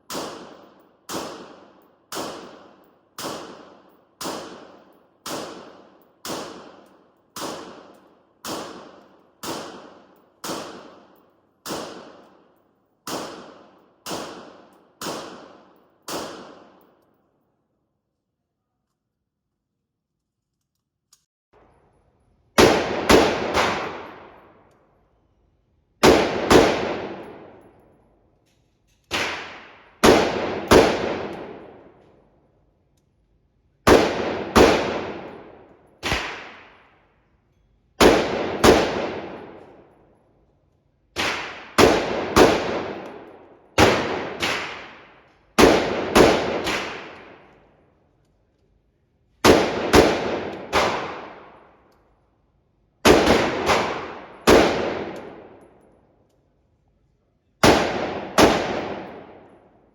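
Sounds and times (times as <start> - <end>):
gunshots echoing indoors: 0.0 - 17.2, 21.6 - 59.9.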